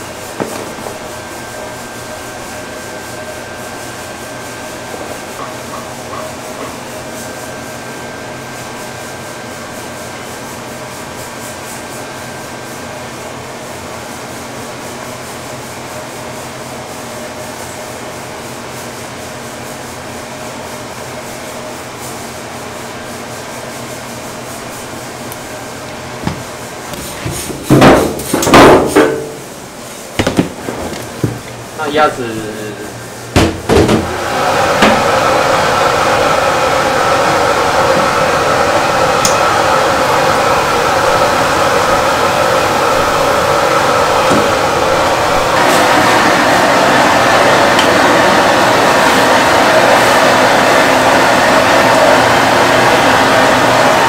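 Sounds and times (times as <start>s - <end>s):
steady background hum: 0.0s - 54.0s.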